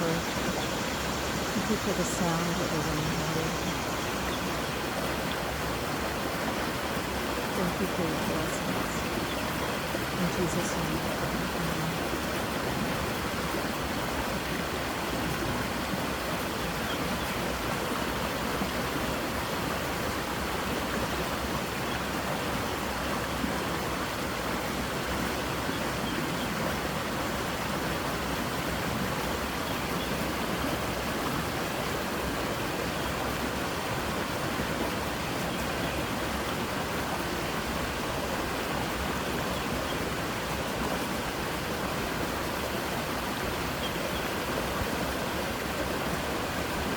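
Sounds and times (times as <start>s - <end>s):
water rushing over rocks: 0.0s - 46.9s.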